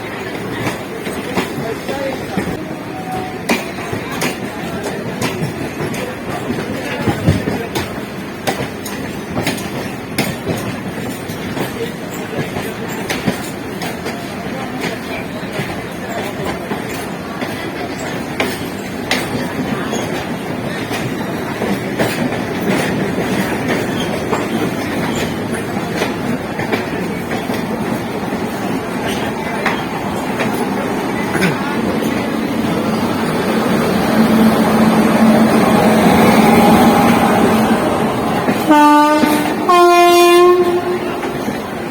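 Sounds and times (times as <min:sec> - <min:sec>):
train wheels rumbling on rail: 0:00.0 - 0:41.9
wheels clicking over rail joints: 0:00.1 - 0:41.9.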